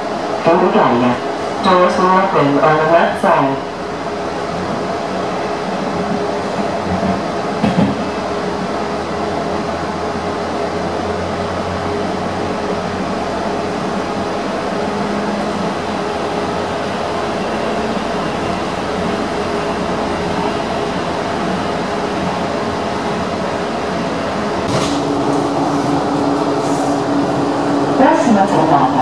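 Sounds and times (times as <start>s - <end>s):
train wheels rumbling on rail: 0.0s - 29.0s
train motor hum: 0.1s - 29.0s.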